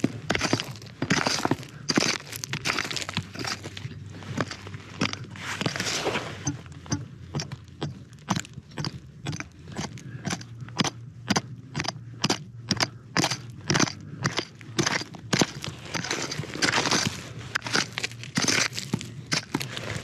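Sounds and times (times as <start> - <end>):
gritty scraping: 0.0 - 20.0
sharp crunching knocks: 0.0 - 20.0.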